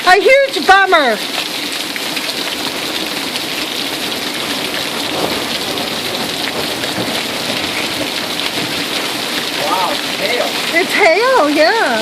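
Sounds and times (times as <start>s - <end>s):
heavy rain and hail: 0.0s - 12.0s.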